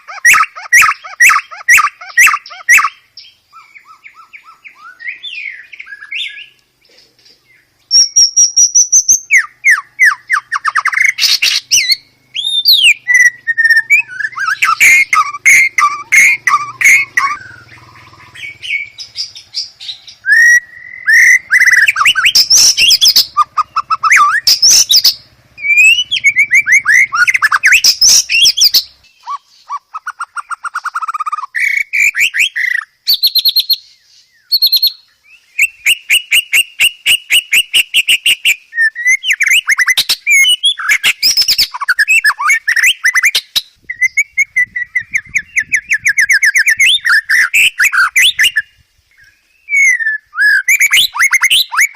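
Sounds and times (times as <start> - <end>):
songbird singing varied song: 0.0 - 51.9.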